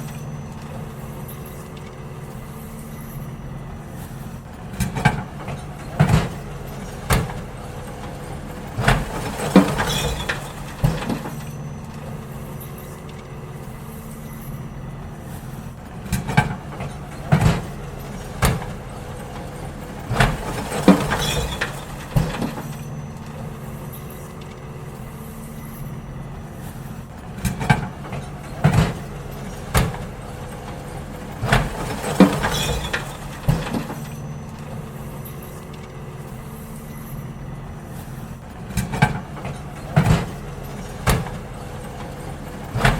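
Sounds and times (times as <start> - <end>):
bins banging and clattering: 0.0 - 42.9
garbage truck engine running: 0.0 - 42.9.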